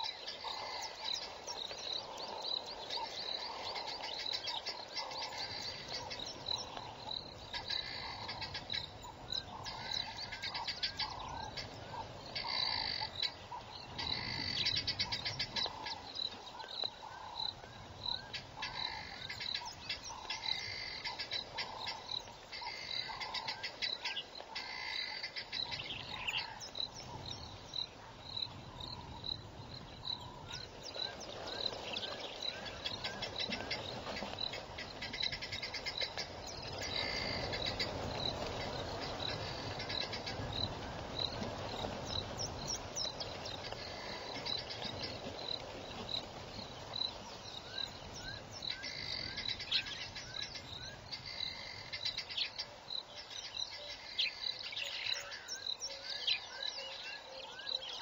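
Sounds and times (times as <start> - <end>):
quick twittering calls: 0.0 - 58.0.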